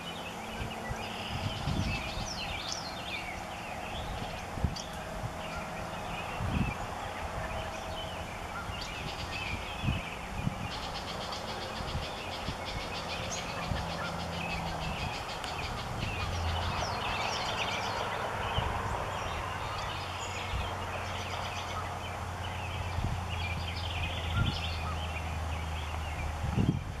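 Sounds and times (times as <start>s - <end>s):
birds chattering and calling: 0.0s - 27.0s.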